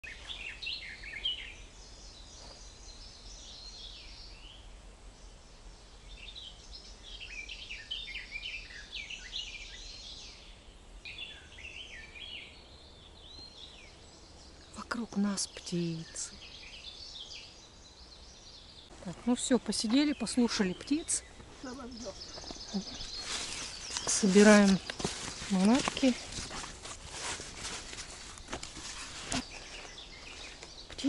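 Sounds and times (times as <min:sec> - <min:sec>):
songbirds chorus: 0:00.0 - 0:31.0.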